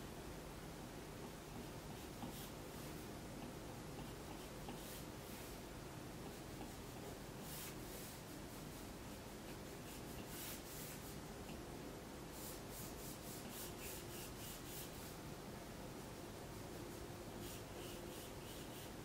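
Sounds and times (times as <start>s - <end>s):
faint room hum: 0.0s - 19.0s
stylus rubbing on tablet screen: 1.5s - 11.6s, 12.3s - 15.2s, 16.0s - 19.0s.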